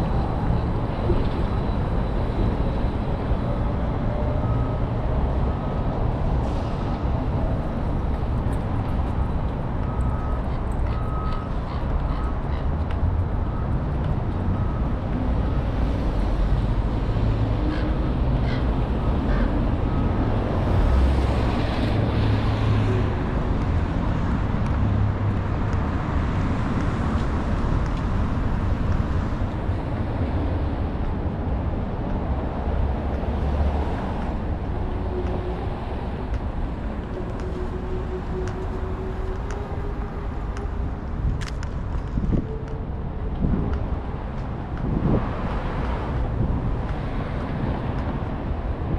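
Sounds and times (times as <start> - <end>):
cars passing: 0.0 - 48.9
road noise: 0.0 - 48.9.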